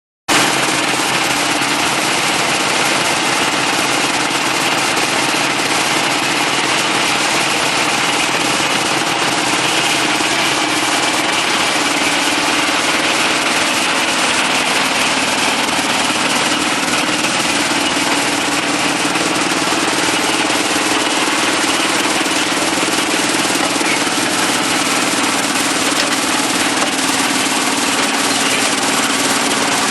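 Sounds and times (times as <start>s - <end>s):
concrete mixer pump running: 0.3s - 29.9s.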